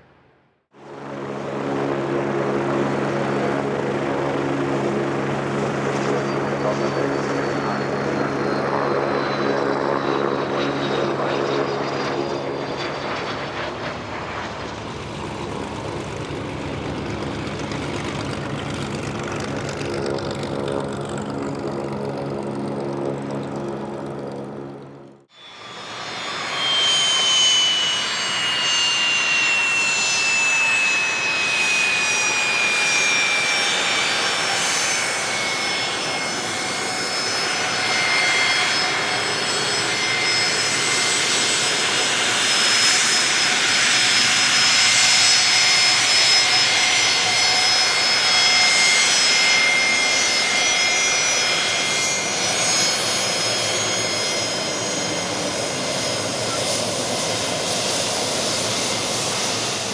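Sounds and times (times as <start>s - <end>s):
jet engines whining: 0.8s - 59.9s.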